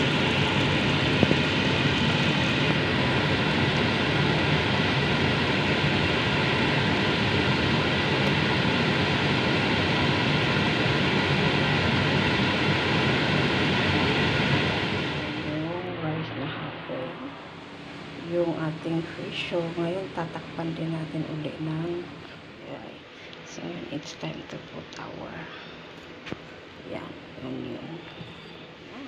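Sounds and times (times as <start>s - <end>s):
faint hum: 0.0s - 29.0s
stove whooshing drone: 0.0s - 29.0s.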